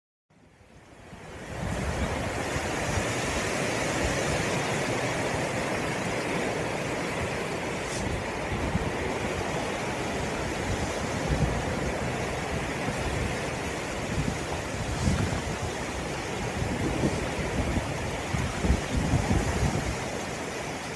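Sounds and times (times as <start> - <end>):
wind rushing through trees: 0.3 - 20.9
wind gusts buffeting microphone: 0.6 - 20.9.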